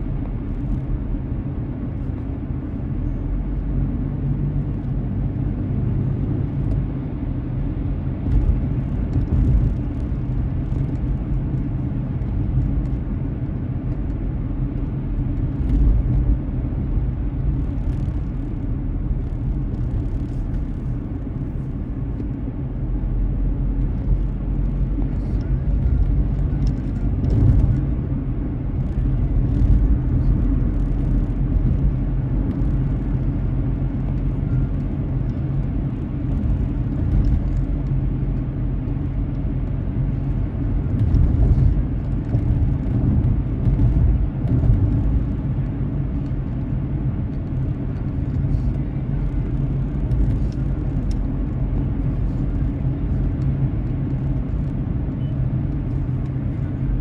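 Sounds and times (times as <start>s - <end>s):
tyres and engine rumble: 0.0s - 57.0s.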